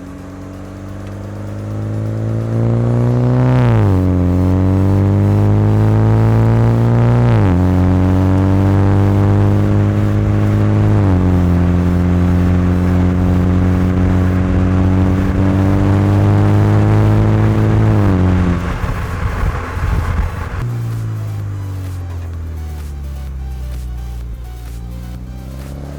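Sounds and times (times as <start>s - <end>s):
car exhaust accelerating hard: 0.0s - 25.9s.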